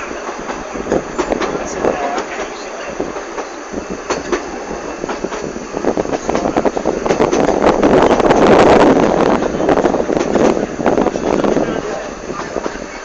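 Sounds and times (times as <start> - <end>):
railway carriage rattling on track: 0.0 - 13.0.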